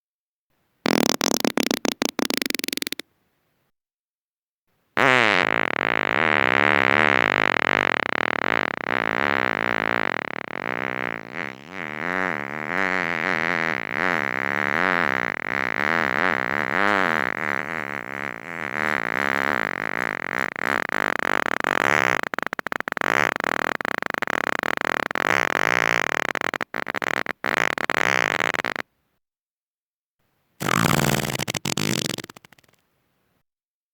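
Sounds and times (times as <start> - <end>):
farting: 0.8 - 3.0, 5.0 - 28.8, 30.6 - 32.8.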